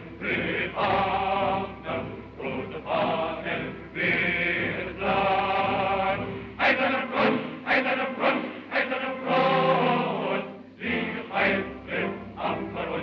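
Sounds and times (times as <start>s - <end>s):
chorus singing a march song: 0.0s - 13.0s.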